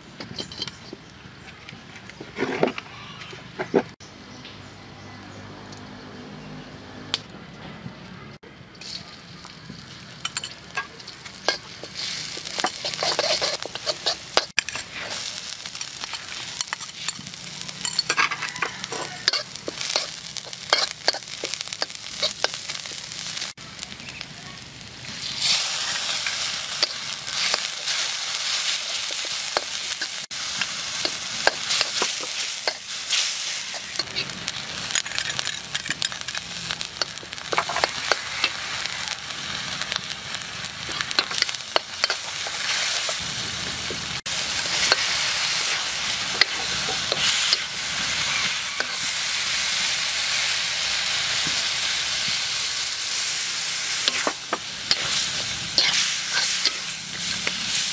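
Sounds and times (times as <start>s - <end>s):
steel spatula scraping a wok: 0.1s - 1.6s, 8.8s - 23.2s, 25.1s - 43.7s, 44.3s - 57.9s
food sizzling in hot oil: 8.8s - 57.9s.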